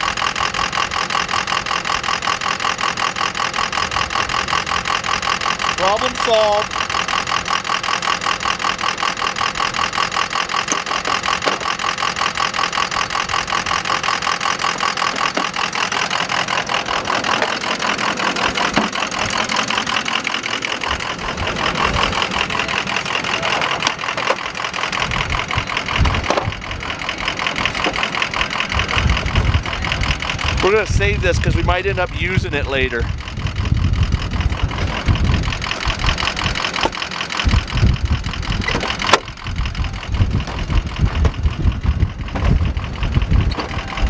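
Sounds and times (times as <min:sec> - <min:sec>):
engine idling: 0:00.0 - 0:44.0.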